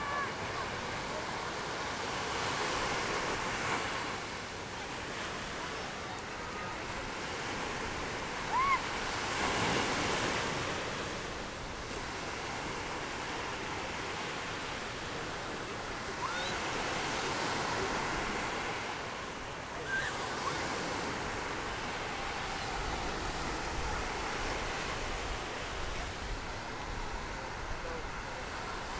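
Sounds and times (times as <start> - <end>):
waves washing onto sand: 0.0 - 28.9.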